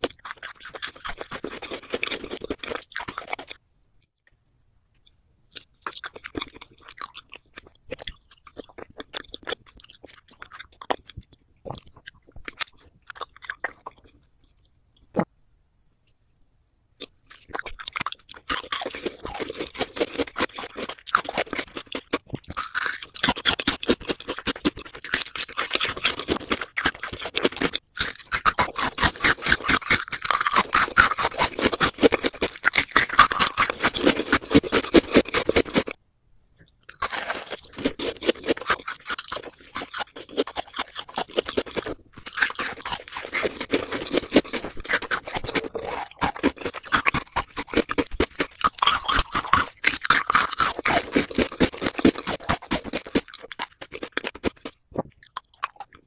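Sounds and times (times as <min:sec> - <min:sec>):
chewing gummy candies: 0:00.0 - 0:03.6, 0:05.0 - 0:15.3, 0:17.0 - 0:36.0, 0:36.6 - 0:56.0.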